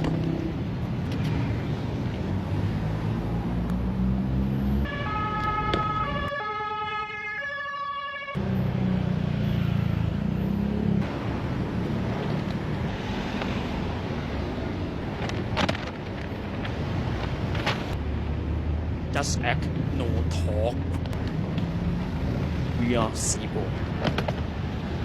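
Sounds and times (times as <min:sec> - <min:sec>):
low rumble of road traffic: 0:00.0 - 0:07.4, 0:08.0 - 0:25.0.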